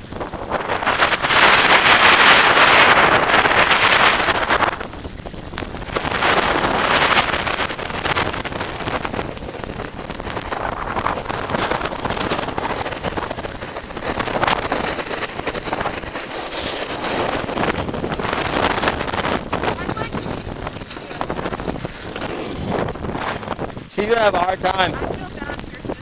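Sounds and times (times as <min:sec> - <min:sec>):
gusty wind buffeting microphone: 0:00.0 - 0:26.0.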